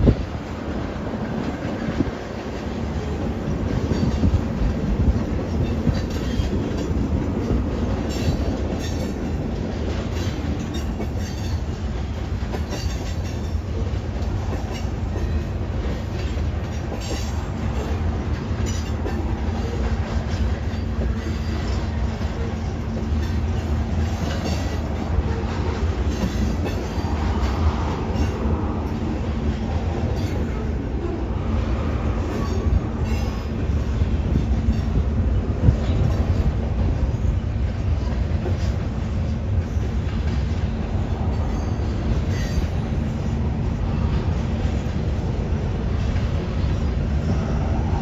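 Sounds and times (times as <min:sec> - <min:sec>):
freight train rumble: 0:00.0 - 0:48.0
wheels clicking over rail joints: 0:00.0 - 0:48.0.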